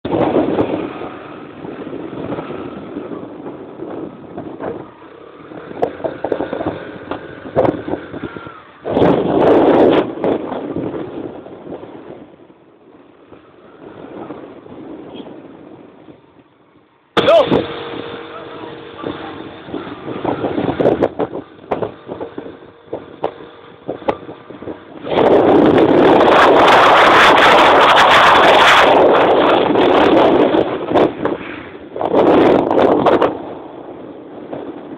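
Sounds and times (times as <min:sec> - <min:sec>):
vehicle low rumble: 0:00.0 - 0:34.9
wind rushing over microphone: 0:00.0 - 0:34.9
motorbike engine: 0:00.1 - 0:11.6, 0:17.2 - 0:33.8.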